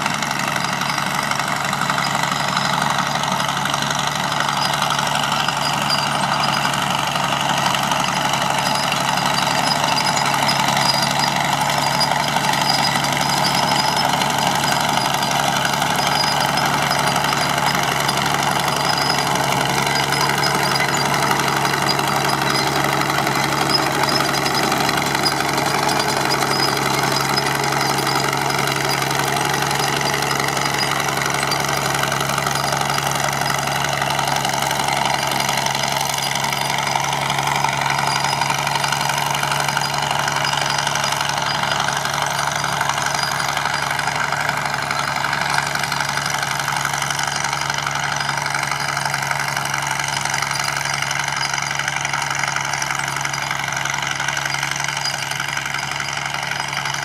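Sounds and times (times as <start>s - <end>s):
crawler tractor engine running: 0.0s - 57.0s.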